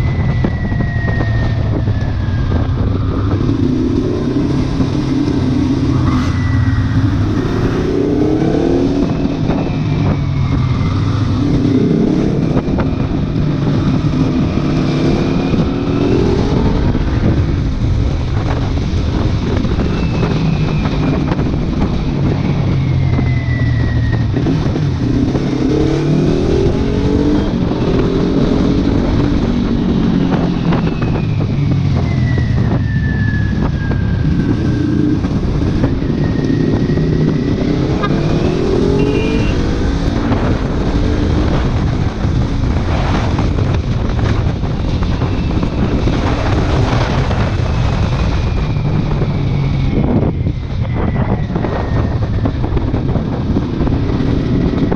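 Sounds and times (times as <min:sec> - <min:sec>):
wind noise on microphone: 0:00.0 - 0:54.9
motorcycle engine revving: 0:01.4 - 0:54.9.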